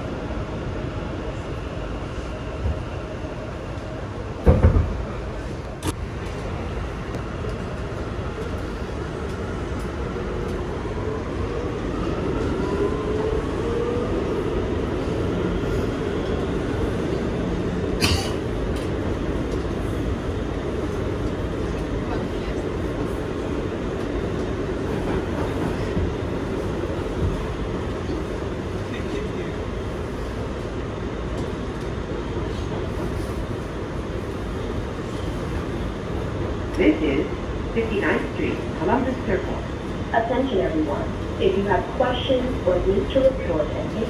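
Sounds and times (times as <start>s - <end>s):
train wheels rumbling on rails: 0.9s - 44.0s.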